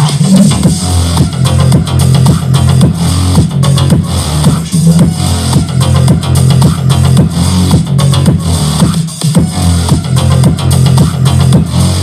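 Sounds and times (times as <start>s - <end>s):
electronic dance music on speaker: 0.0s - 12.0s.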